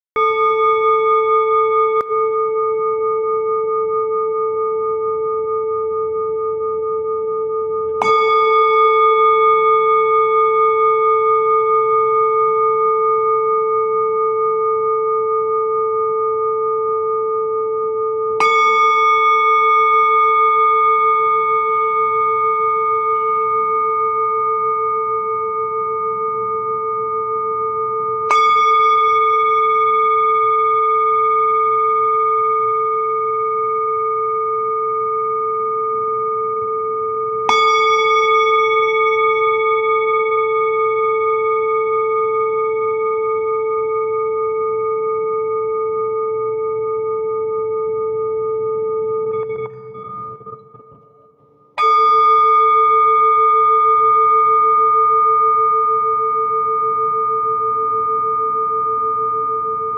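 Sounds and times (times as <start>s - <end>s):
singing bowl ringing: 0.0s - 59.9s.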